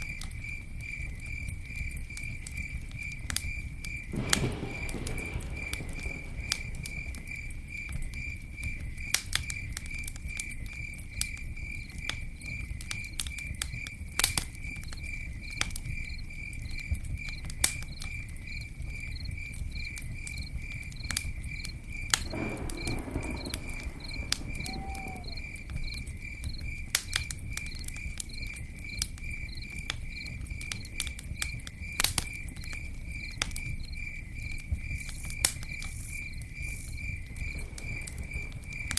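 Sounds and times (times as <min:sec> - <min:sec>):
campfire crackling: 0:00.0 - 0:38.9
crickets chirping: 0:00.0 - 0:38.9.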